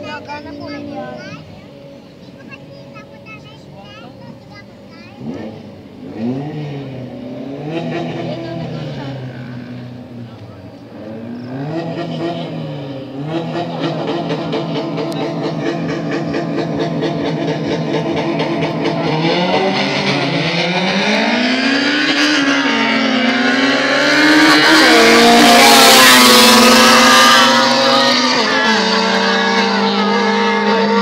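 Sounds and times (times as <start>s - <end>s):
racing engines revving: 0.0s - 31.0s.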